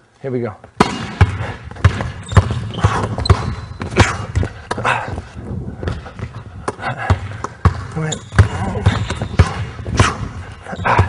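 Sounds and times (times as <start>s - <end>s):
basketball bouncing on hardwood floor: 0.8s - 5.0s, 5.8s - 11.0s.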